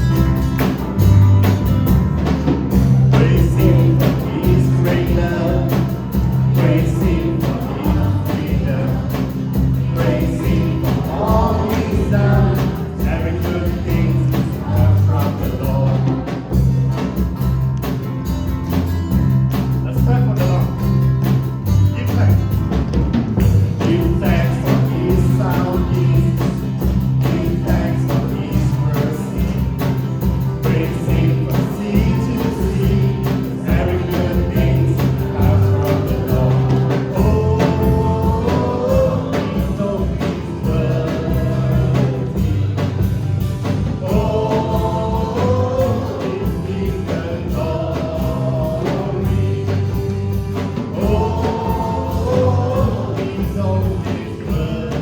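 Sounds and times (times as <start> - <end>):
group singing worship song: 0.0 - 18.0, 23.2 - 55.0
bass notes: 0.0 - 55.0
steady drum beat: 0.0 - 55.0.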